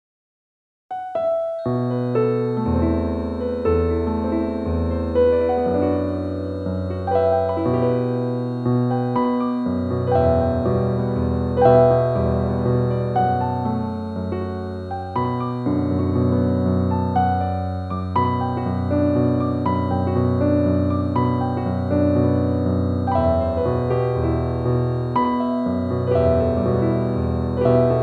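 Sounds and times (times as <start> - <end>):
slow piano music: 0.9 - 28.0.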